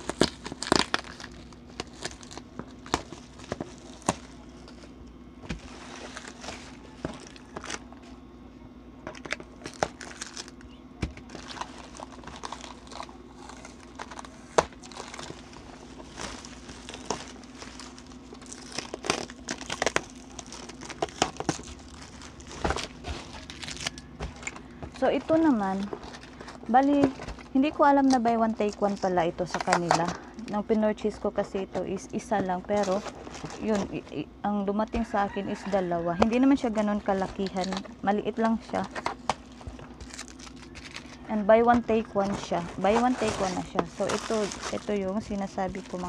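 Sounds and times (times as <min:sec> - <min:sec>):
plastic wrapping crinkling: 0:00.0 - 0:08.2, 0:09.1 - 0:34.2, 0:35.0 - 0:46.0.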